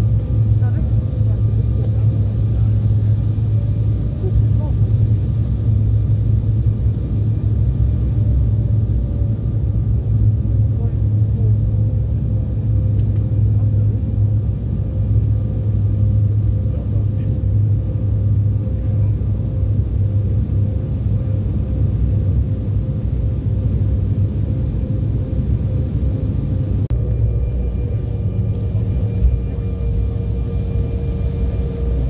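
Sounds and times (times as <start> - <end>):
airliner cabin rumble: 0.0 - 32.0
faint jet engine whine: 0.0 - 32.0
plane rolling on runway: 0.0 - 32.0.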